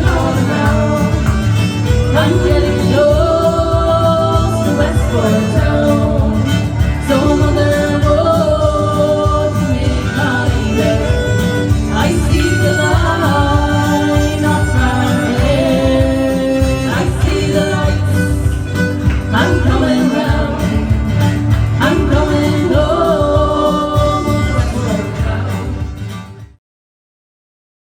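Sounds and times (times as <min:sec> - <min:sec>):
folk band music: 0:00.0 - 0:26.6.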